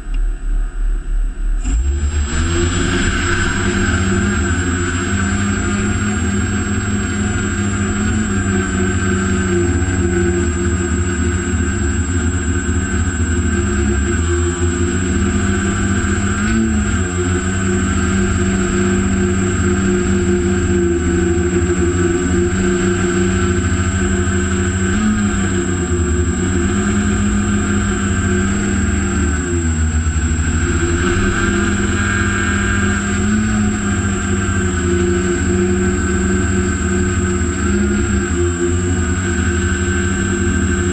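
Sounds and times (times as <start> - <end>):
drone propellers buzzing: 0.0 - 40.9
low rumble: 0.0 - 40.9
thin high whine: 0.0 - 40.9.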